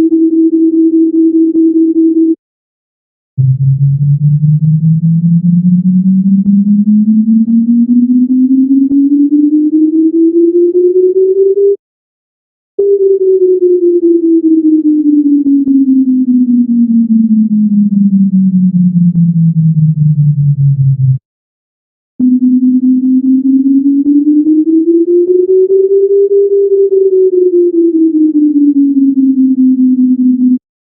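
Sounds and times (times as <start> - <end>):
synthesized tone gliding down: 3.4 - 11.8, 12.8 - 21.1, 22.2 - 30.6
synthesized tone rising and falling: 3.4 - 11.8, 12.8 - 21.2, 22.2 - 30.6.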